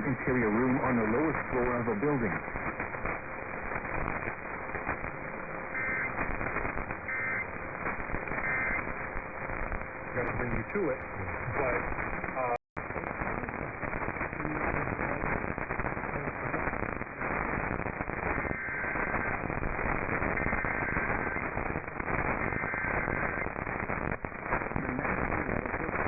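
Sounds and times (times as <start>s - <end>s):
radio static hiss and crackle: 0.0s - 26.0s.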